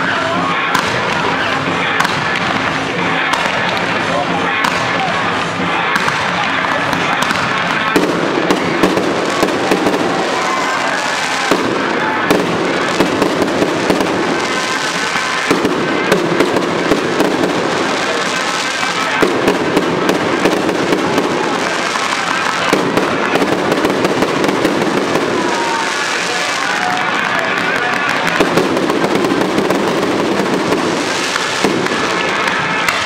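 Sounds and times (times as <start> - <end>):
fireworks shells bursting: 0.7 - 33.0.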